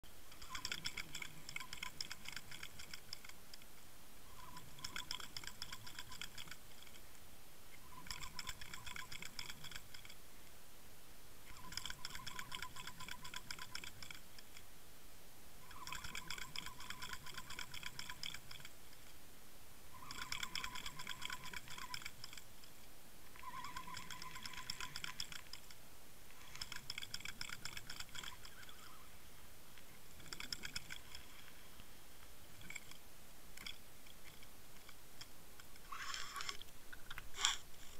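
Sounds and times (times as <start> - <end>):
rapid even ticking: 0.3 - 7.0, 7.7 - 10.2, 11.4 - 14.7, 15.6 - 19.0, 19.9 - 22.7, 23.3 - 29.1, 29.8 - 31.6, 32.5 - 37.7.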